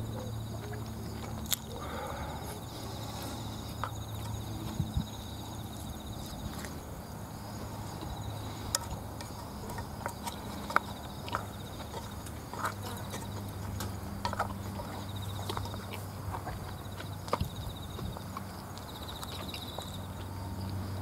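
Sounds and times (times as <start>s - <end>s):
eating sounds: 0.0s - 6.8s, 7.6s - 20.8s
insects trilling: 0.0s - 21.0s
low steady hum: 0.0s - 21.0s.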